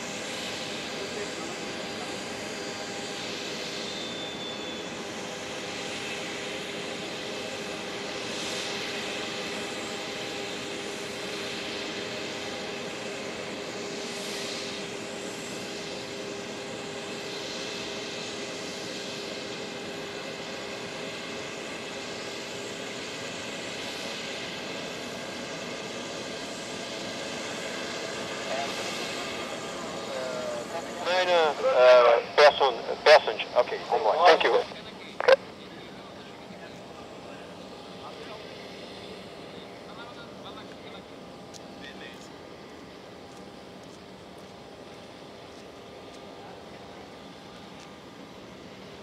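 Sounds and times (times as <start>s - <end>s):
jet engines hissing and whining: 0.0s - 49.0s.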